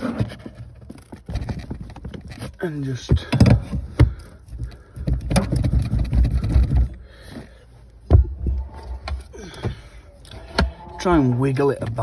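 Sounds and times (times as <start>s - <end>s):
metal rattling and scraping: 0.0s - 12.0s.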